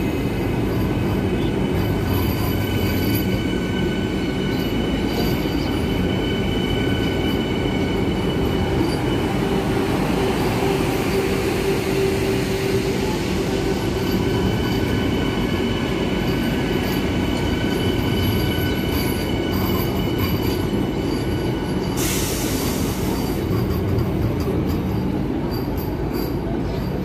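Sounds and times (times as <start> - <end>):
train coaches rumbling: 0.0 - 27.0
high wheel squeal: 0.1 - 27.0.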